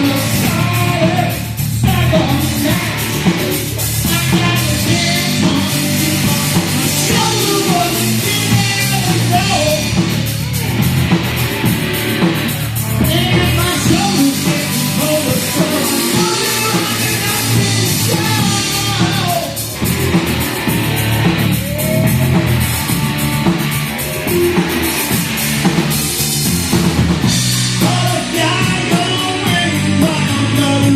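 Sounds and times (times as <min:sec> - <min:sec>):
loud rock music with singing: 0:00.0 - 0:30.9.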